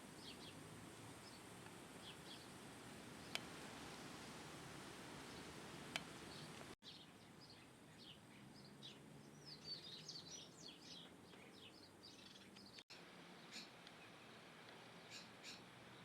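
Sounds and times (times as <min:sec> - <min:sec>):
small birds chirping: 0:00.0 - 0:04.2, 0:05.2 - 0:12.8, 0:13.4 - 0:16.0
faint background hiss: 0:00.0 - 0:16.0.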